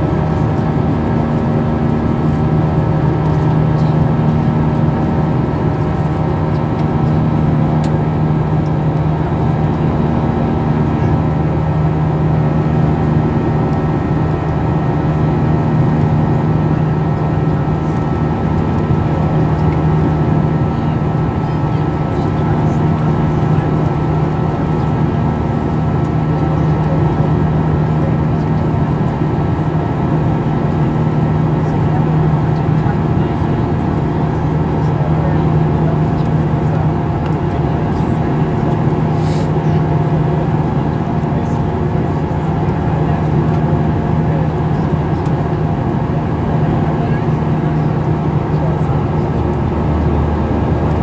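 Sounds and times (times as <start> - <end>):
airplane cabin drone: 0.0 - 51.0.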